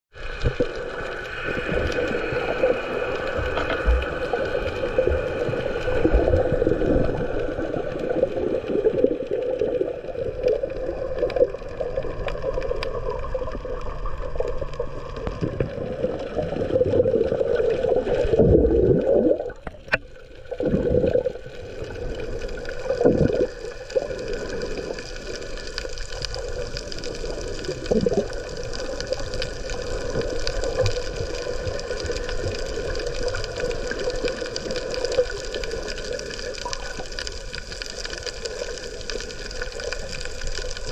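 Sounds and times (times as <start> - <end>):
underwater gurgling: 0.1 - 40.9.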